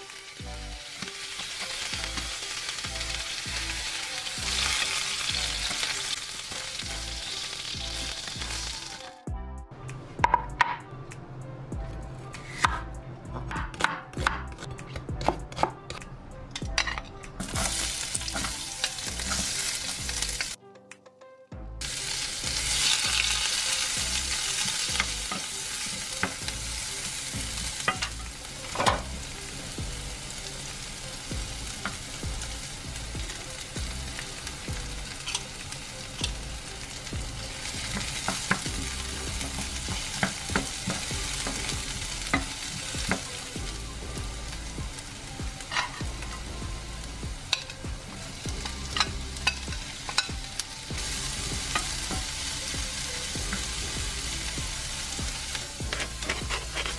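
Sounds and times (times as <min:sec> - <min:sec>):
onions sizzling in hot oil: 0:00.0 - 0:09.1, 0:17.4 - 0:20.6, 0:21.8 - 0:56.9.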